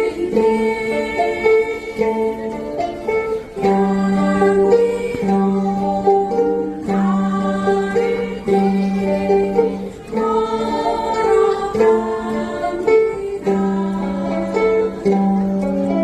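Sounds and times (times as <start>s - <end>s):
group singing: 0.0s - 16.0s
ukuleles strumming: 0.0s - 16.0s.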